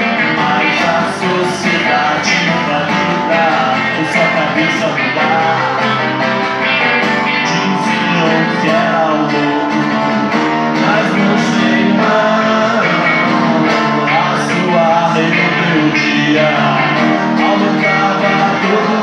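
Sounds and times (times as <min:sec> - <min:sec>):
electric guitar: 0:00.0 - 0:19.0
keyboard: 0:00.0 - 0:19.0
man singing: 0:00.0 - 0:19.0
strummed acoustic guitar: 0:00.0 - 0:19.0.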